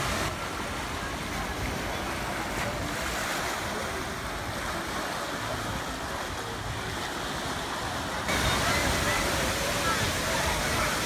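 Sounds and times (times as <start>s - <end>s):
water rushing and lapping: 0.0s - 11.0s.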